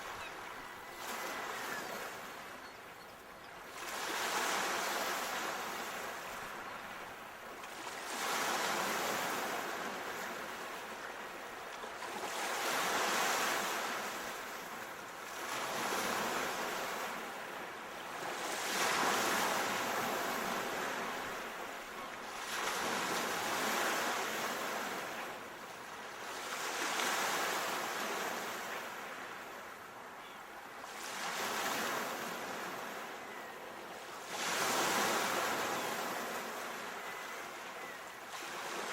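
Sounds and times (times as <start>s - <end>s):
sea waves washing ashore: 3.6s - 38.9s.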